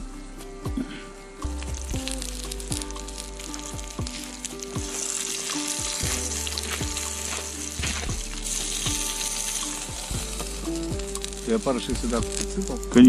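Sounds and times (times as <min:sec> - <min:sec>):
background music with steady beat: 0:00.0 - 0:13.0
dumplings sizzling in a pan: 0:01.4 - 0:13.0.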